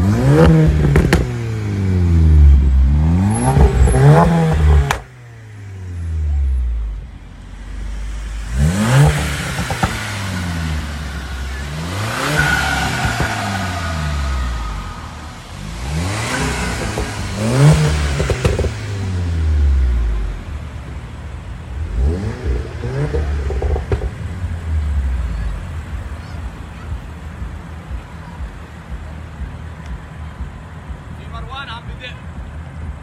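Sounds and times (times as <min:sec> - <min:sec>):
exhaust pops and crackles: 0:00.0 - 0:01.5, 0:02.4 - 0:05.3, 0:06.4 - 0:33.0
car engine revving: 0:00.0 - 0:31.6.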